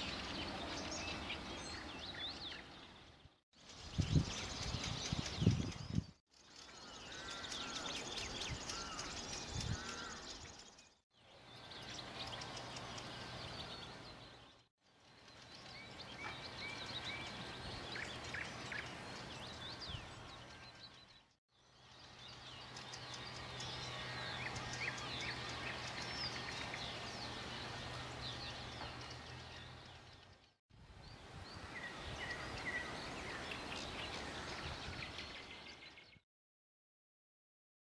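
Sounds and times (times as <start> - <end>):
outdoor background noise: 0.0 - 36.2
small birds chirping: 0.0 - 36.2.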